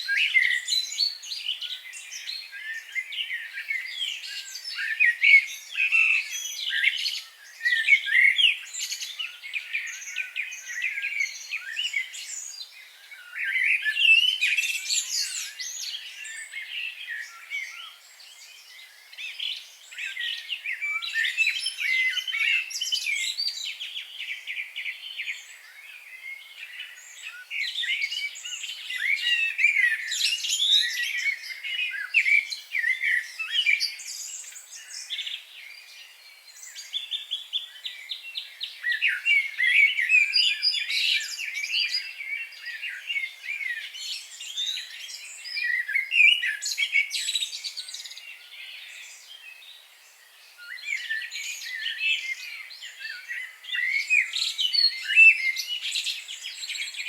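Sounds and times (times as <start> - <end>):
wild birds chirping and trilling: 0.0 - 57.0.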